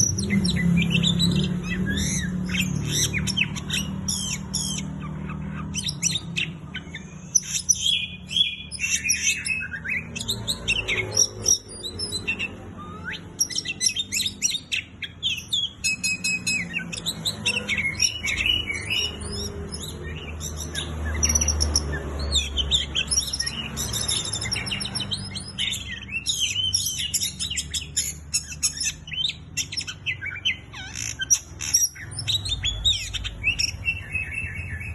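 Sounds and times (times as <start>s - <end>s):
bird singing whistles and chirps: 0.0s - 34.9s.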